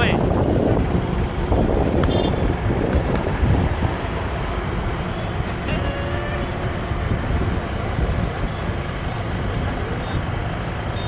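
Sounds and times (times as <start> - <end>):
vehicle and road noise: 0.0 - 11.0.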